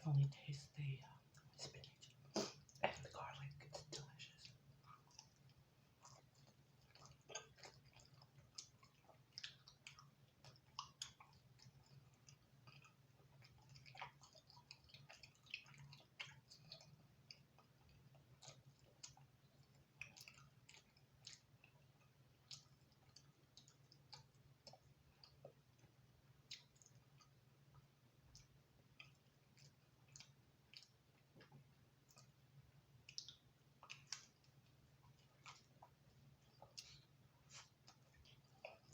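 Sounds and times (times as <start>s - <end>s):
faint low hum: 0.0s - 38.9s
chewing crispy pizza: 0.2s - 38.9s.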